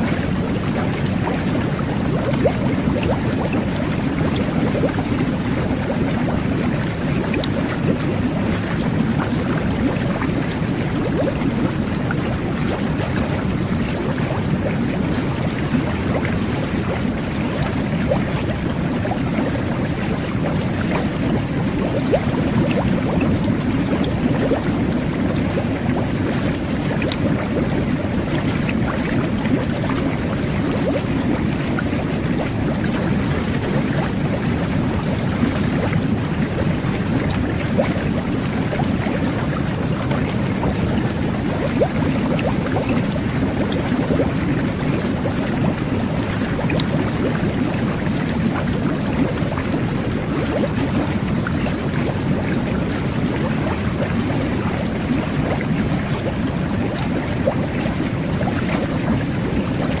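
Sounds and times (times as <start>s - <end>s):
water churning and bubbling: 0.0s - 60.0s.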